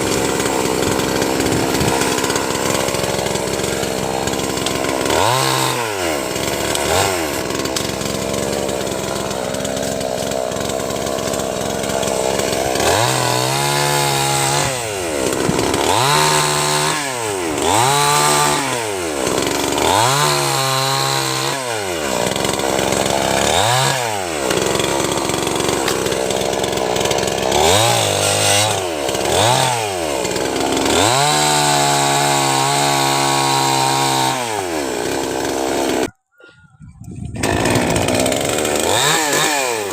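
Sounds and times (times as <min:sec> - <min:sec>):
chainsaw engine revving: 0:00.0 - 0:36.2, 0:37.2 - 0:39.9.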